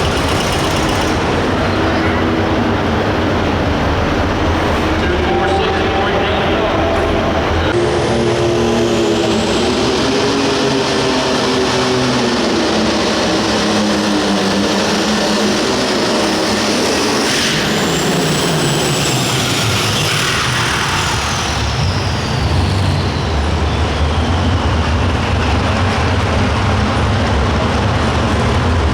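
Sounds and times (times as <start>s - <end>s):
diesel engine running loud: 0.0s - 28.9s.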